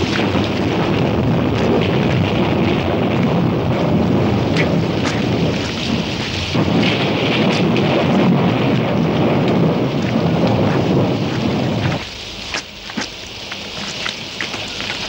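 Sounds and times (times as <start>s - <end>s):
continuous low rumble: 0.0s - 15.0s
heavy rain hiss: 0.0s - 15.0s
sharp rain spatters: 0.0s - 15.0s.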